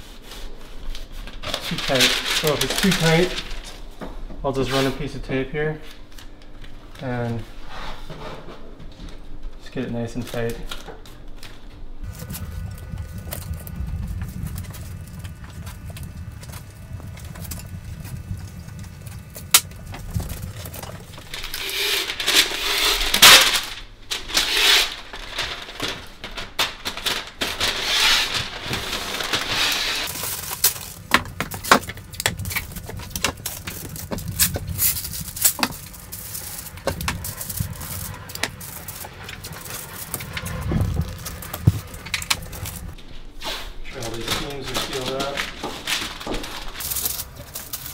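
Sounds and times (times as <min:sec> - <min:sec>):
paper rustling and crinkling: 0:00.0 - 0:05.1, 0:09.9 - 0:47.9.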